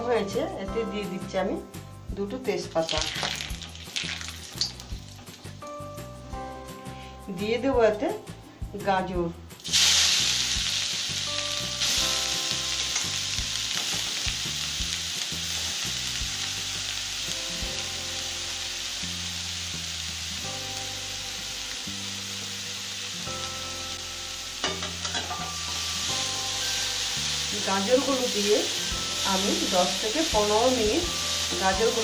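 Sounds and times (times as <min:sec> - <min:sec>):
carrots sizzling in hot fat: 0:02.4 - 0:07.6, 0:09.6 - 0:32.0.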